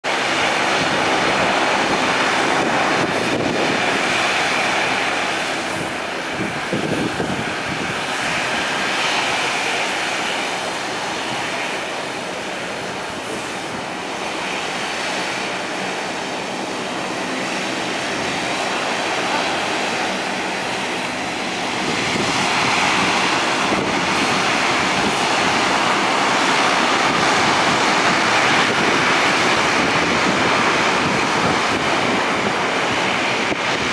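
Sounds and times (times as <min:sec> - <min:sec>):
turboprop engines running: 0:00.0 - 0:33.9.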